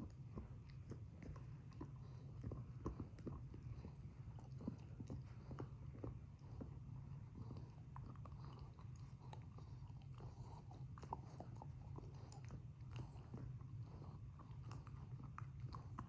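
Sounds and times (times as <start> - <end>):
dog chewing with crunching clicks: 0.0 - 16.0
low steady hum: 0.0 - 16.0.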